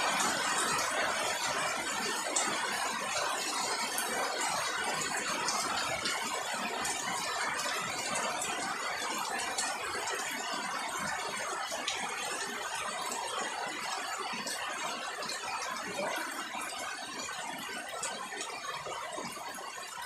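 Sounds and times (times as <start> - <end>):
rain falling on foliage: 0.0 - 20.0.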